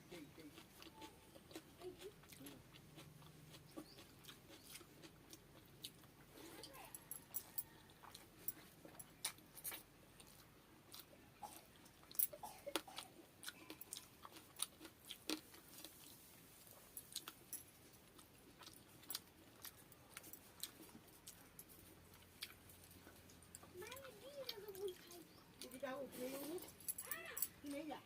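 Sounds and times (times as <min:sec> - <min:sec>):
chewing and crunching: 0:00.0 - 0:27.9.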